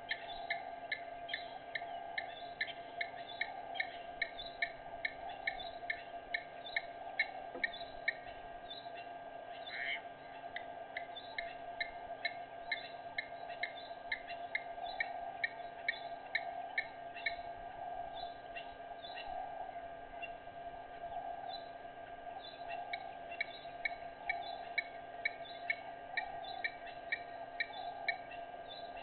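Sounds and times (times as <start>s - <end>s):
bird chirping: 0.0s - 20.4s, 21.0s - 29.0s
background drone: 0.0s - 29.0s.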